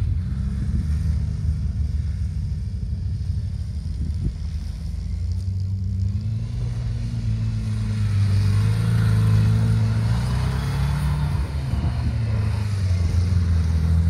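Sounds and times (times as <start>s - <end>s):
quad engine revving: 0.0s - 14.0s
wheels spinning through snow: 0.0s - 14.0s.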